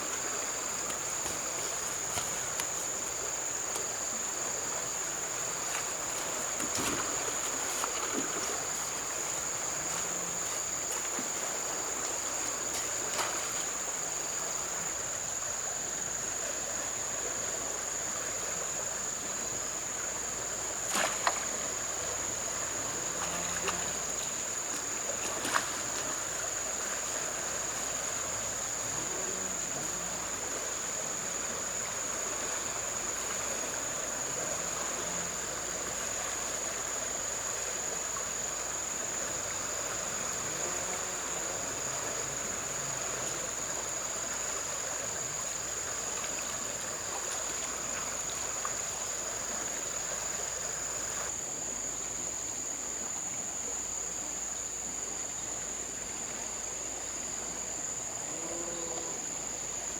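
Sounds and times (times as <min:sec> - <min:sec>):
running water: 0:00.0 - 0:51.3.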